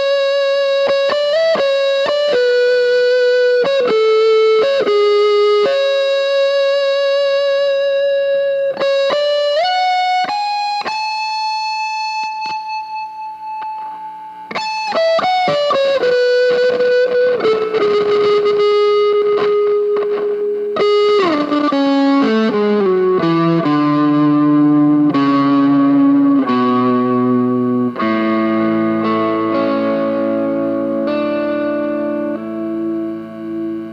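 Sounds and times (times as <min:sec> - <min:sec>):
electric guitar lead line: 0:00.0 - 0:33.9.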